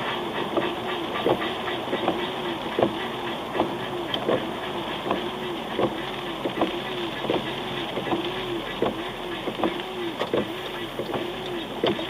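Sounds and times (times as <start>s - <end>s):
brake clicking and squealing: 0.0s - 12.0s.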